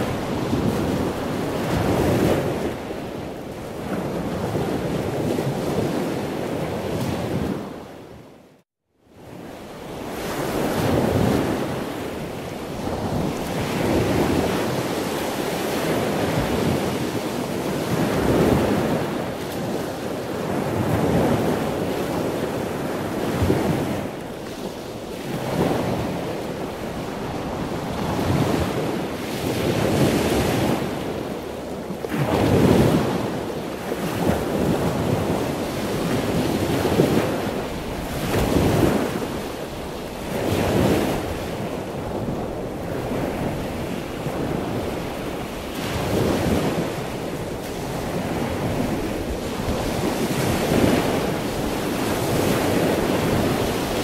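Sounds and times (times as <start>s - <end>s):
waves rushing: 0.0s - 7.8s, 9.6s - 54.0s
wind buffeting microphone: 0.0s - 8.4s, 9.2s - 54.0s.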